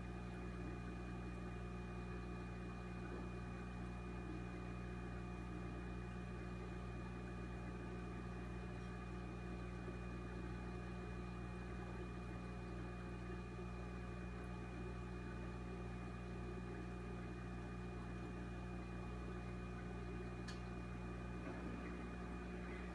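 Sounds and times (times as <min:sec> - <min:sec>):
aquarium pump hum: 0:00.0 - 0:22.9.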